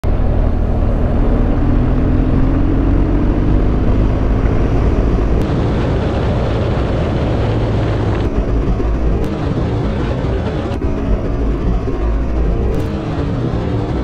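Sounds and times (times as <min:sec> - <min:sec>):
motorcycle engine running: 0:00.0 - 0:14.0
wind rush: 0:00.0 - 0:14.0.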